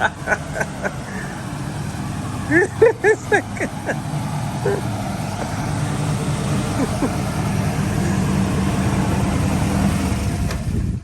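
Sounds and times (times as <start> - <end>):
car engine running loudly: 0.0 - 11.0.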